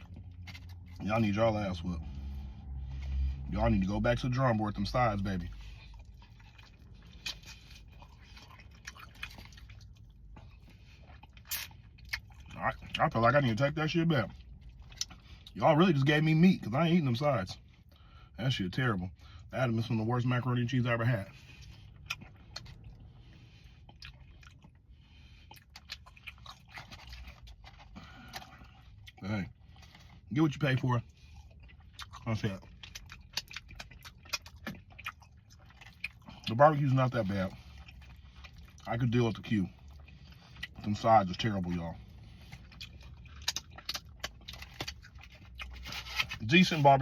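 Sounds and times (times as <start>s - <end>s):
person chewing food: 0.0s - 18.4s, 19.0s - 47.0s.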